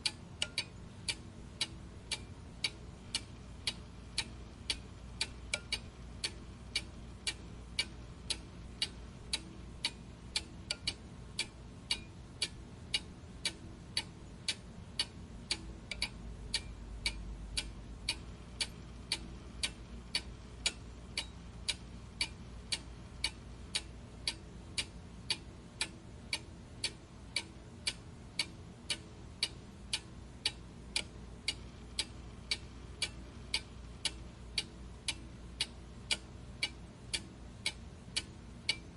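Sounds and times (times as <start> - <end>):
clock ticking: 0.0 - 38.9
faint low hum: 0.0 - 38.9.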